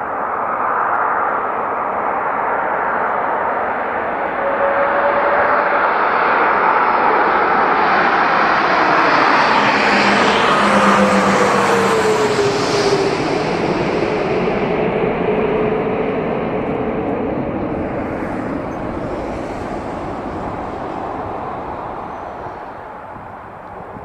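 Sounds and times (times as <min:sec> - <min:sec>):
jet airliner passing: 0:00.0 - 0:24.0.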